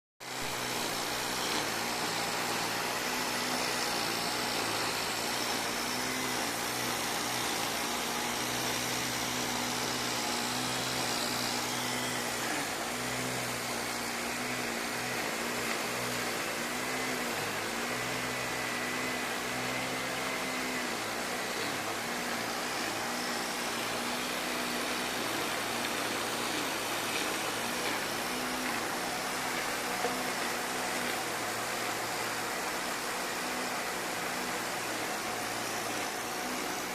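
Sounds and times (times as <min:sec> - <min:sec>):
grass cutter engine running: 0:00.2 - 0:36.9.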